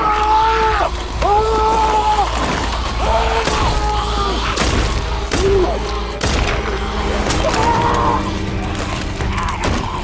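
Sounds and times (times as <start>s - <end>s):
tense music with bending tones: 0.0s - 10.0s.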